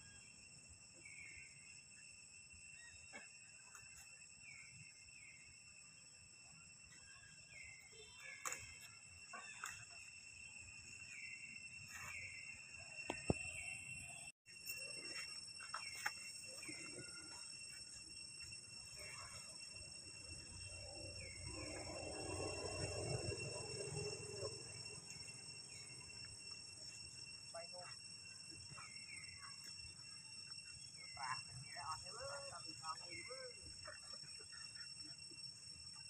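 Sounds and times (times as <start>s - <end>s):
high insect drone: 0.0s - 36.0s.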